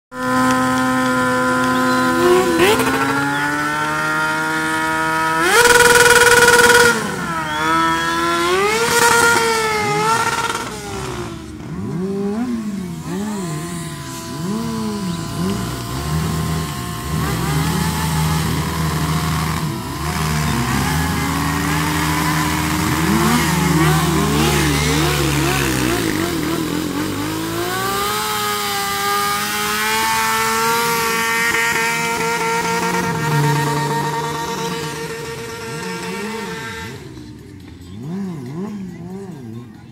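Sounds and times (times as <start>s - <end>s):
motorcycle engine revving high: 0.1s - 39.9s.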